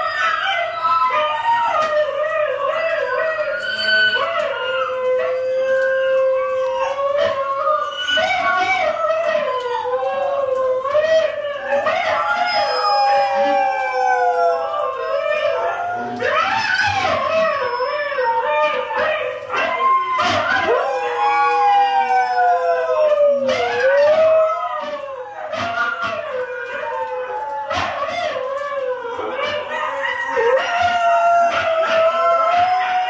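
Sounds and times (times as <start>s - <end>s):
dog howling: 0.0s - 33.0s
recorded dogs howling from tv: 0.0s - 33.0s.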